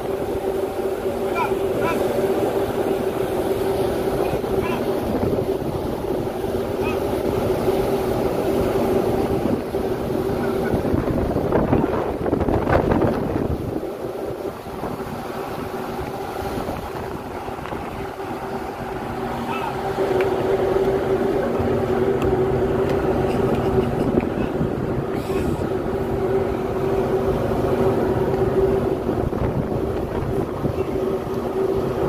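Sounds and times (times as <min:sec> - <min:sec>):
ship engines droning: 0:00.0 - 0:32.0.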